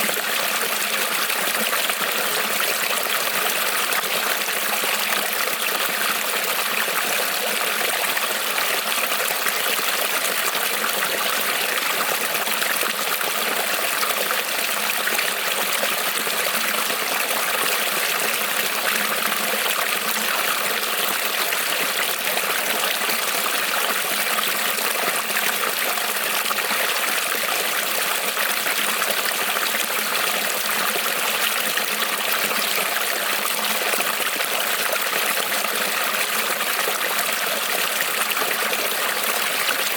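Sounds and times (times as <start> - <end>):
creek trickling over stones: 0.0 - 39.9.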